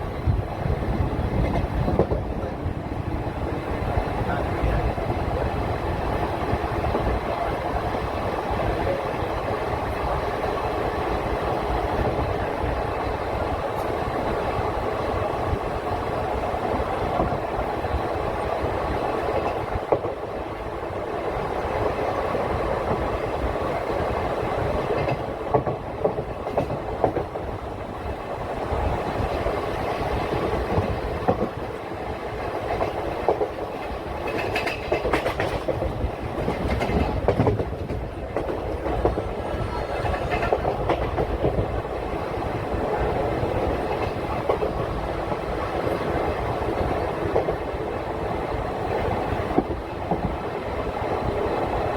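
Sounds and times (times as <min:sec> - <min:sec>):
clickety-clack over rail joints: 0:00.0 - 0:51.9
train wheels rumbling on rails: 0:00.0 - 0:51.9.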